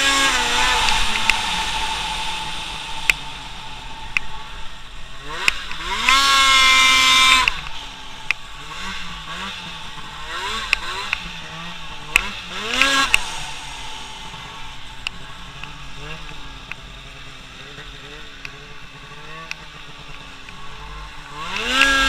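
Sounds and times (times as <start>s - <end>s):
small petrol engine revving: 0.0s - 22.0s.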